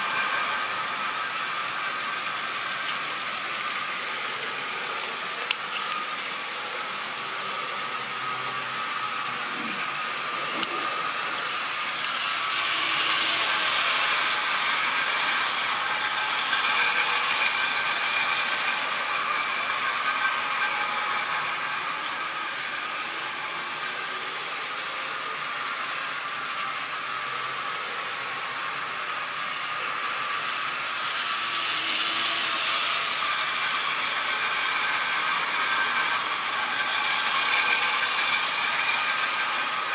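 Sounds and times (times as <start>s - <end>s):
small electric motor whirring: 0.0s - 39.9s.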